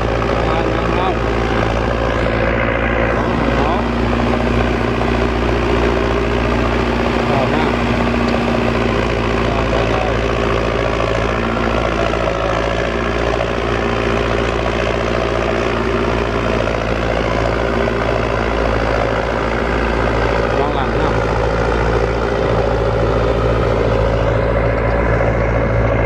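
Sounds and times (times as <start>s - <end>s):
rotary tiller churning soil: 0.0s - 26.0s
tractor diesel engine under load: 0.0s - 26.0s.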